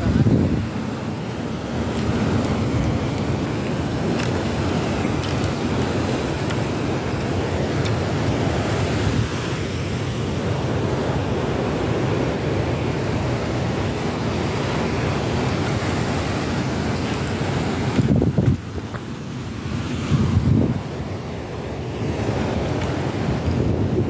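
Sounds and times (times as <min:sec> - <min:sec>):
wind buffeting microphone: 0:00.0 - 0:12.2, 0:12.8 - 0:19.1, 0:19.7 - 0:24.0
surf breaking on rocky shore: 0:00.0 - 0:24.0.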